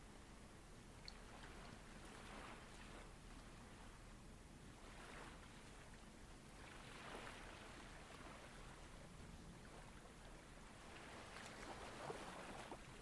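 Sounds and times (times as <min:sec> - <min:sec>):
faint ocean waves: 0:00.0 - 0:13.0.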